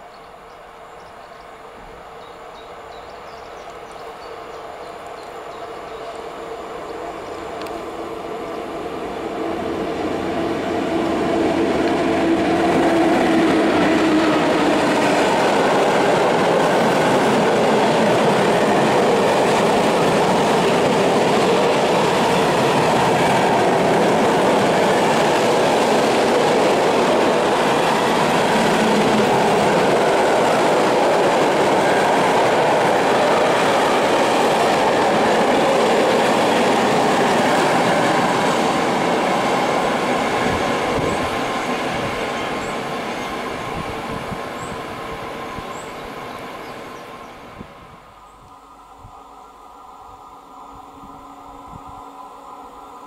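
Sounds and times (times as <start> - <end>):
train wheels rolling on rails: 1.0 - 49.9.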